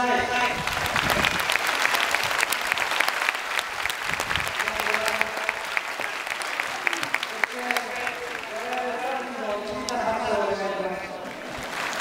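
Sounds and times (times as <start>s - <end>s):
crowd applauding: 0.4s - 10.0s, 10.8s - 12.0s.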